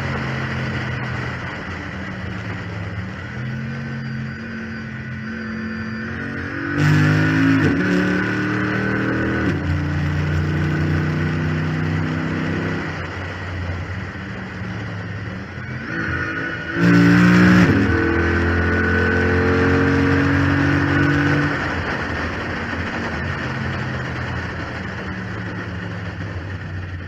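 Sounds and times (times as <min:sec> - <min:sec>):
car engine accelerating: 0:00.0 - 0:27.0
steady whine: 0:00.0 - 0:27.0.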